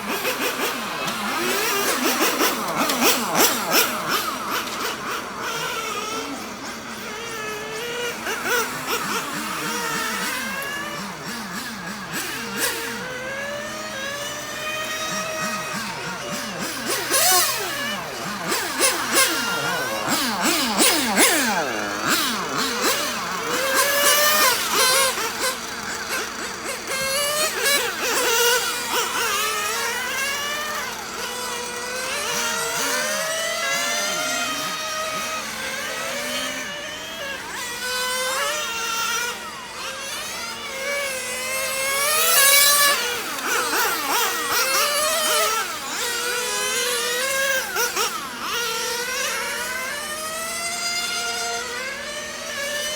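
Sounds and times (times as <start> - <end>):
radio-controlled car engines whining: 0.0 - 52.9.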